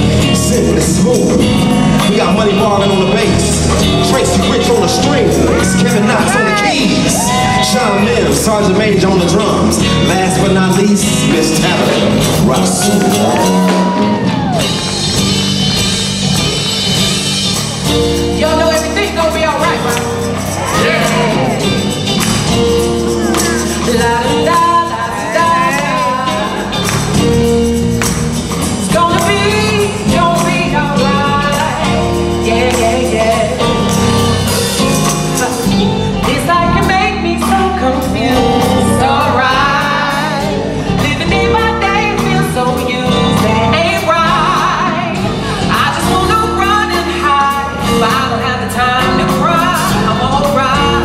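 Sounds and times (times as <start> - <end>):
man singing lead: 0.0 - 14.8, 18.4 - 22.1, 22.7 - 27.0, 28.8 - 51.0
bass guitar: 0.0 - 51.0
drums: 0.0 - 51.0
electric guitar: 0.0 - 51.0
keyboards: 0.0 - 51.0.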